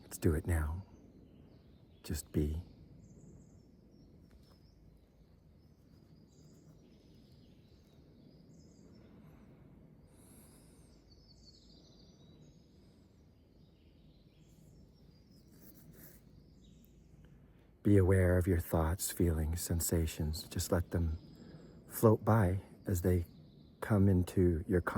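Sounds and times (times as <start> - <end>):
distant birdsong: 0.0 - 24.9
low steady background rumble: 0.0 - 24.9.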